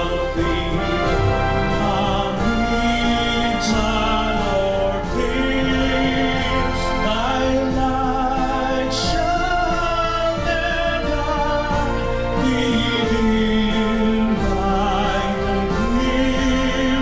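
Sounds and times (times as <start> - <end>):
instrumental accompaniment: 0.0 - 17.0
voices singing a hymn: 0.0 - 17.0.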